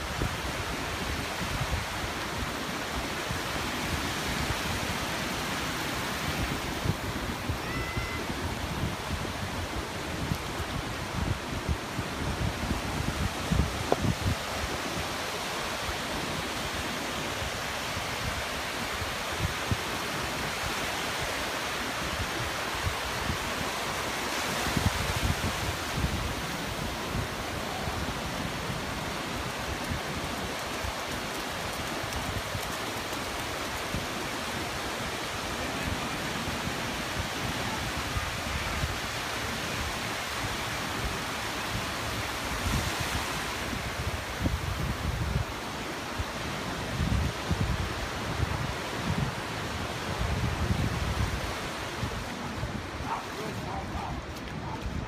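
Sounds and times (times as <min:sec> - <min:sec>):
ocean surf washing on beach: 0:00.0 - 0:55.0
wind buffeting microphone: 0:00.0 - 0:55.0.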